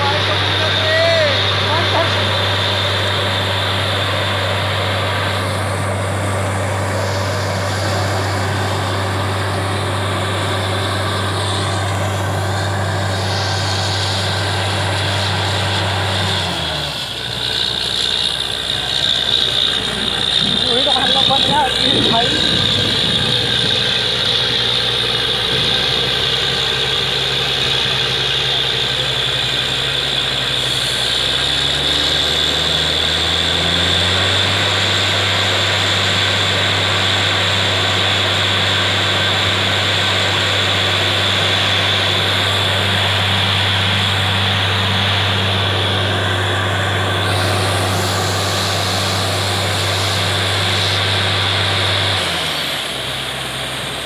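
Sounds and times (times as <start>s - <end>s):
engine drone: 0.0s - 54.0s.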